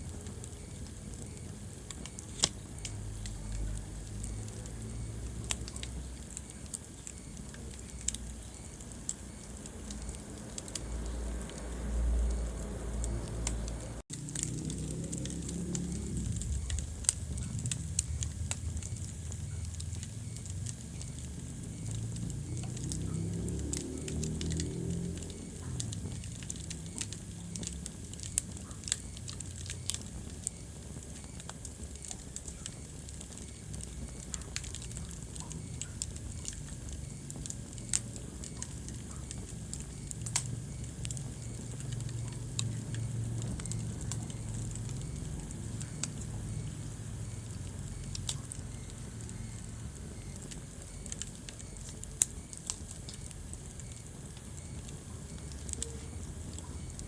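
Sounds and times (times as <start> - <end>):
low steady rumble: 0.0 - 57.0
wood fire crackling and popping: 0.0 - 57.0.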